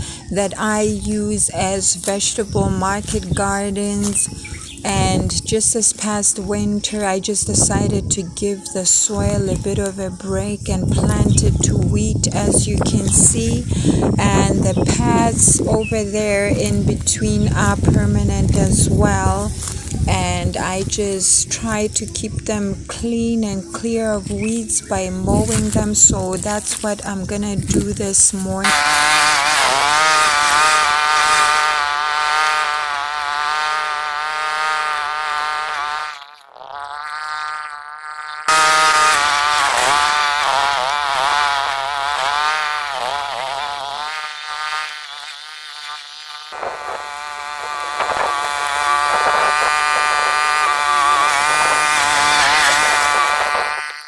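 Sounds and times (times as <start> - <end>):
petrol mower engine running: 0.0 - 36.4, 38.5 - 54.0.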